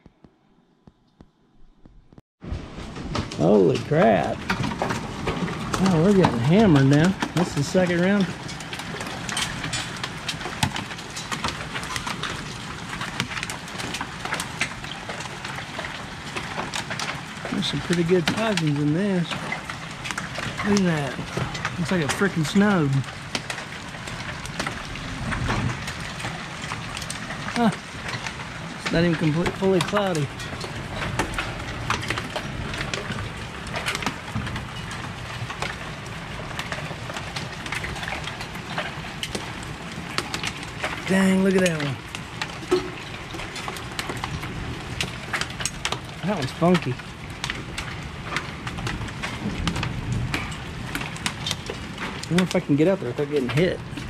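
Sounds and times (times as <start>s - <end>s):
hail on wooden deck: 2.4s - 54.0s
rain hissing: 2.5s - 54.0s.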